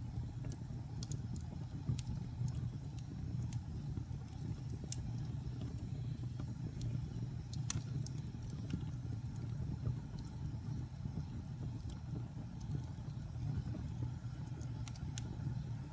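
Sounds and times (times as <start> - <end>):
fire crackles and pops: 0.0 - 15.9
low rumble of flames: 0.0 - 15.9.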